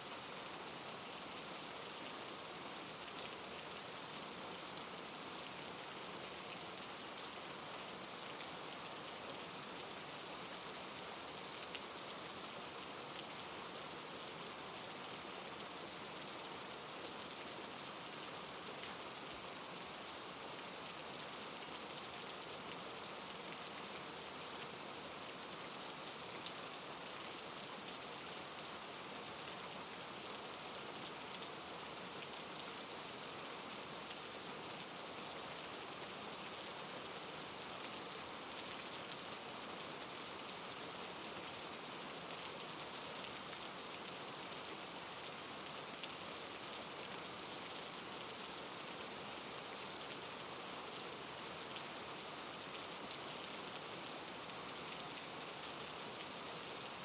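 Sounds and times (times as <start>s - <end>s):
soft rain hiss: 0.0s - 57.0s.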